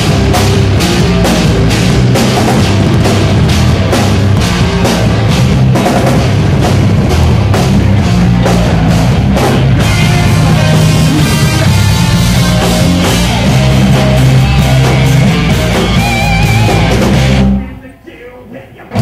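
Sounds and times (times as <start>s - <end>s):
pounding drum kit: 0.0s - 17.8s, 18.7s - 19.0s
distorted electric guitar: 0.0s - 18.0s, 18.8s - 19.0s.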